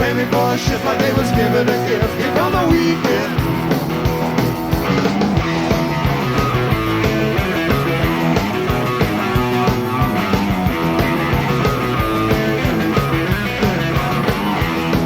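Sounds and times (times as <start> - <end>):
bass guitar: 0.0 - 15.0
drums playing steady beat: 0.0 - 15.0
electric guitars: 0.0 - 15.0.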